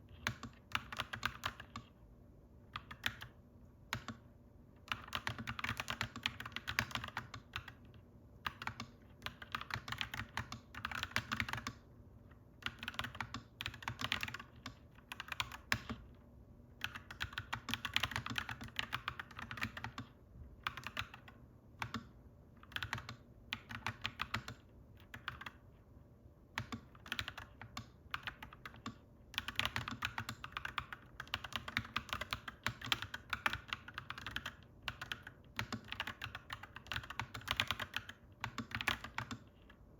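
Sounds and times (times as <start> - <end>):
mechanical keyboard typing: 0.1 - 2.0, 2.7 - 11.9, 12.6 - 16.1, 16.8 - 25.7, 26.5 - 39.8.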